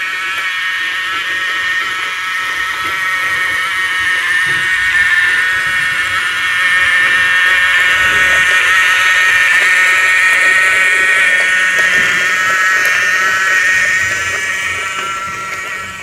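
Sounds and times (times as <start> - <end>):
toy train motor whining: 0.0 - 16.0.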